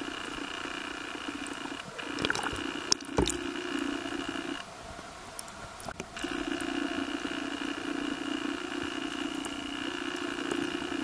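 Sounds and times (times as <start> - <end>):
underwater boat engine hum: 0.0 - 11.0.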